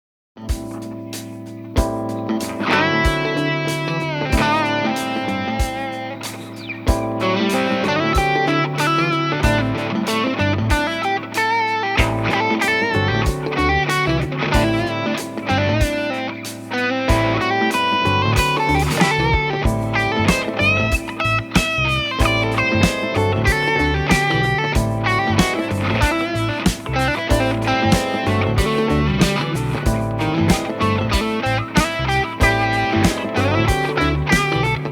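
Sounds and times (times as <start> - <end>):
electric guitar playing: 0.6 - 34.9.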